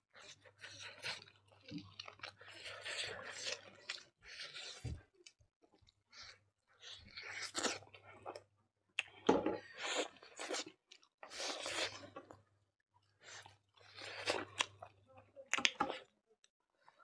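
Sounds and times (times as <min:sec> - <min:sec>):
person chewing food: 0:00.0 - 0:16.1.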